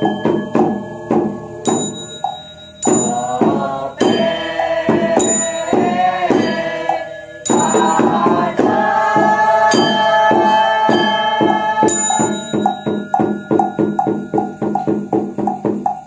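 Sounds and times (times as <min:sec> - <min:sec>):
bell ringing: 0:00.0 - 0:16.0
wooden block struck with stick: 0:00.0 - 0:16.0.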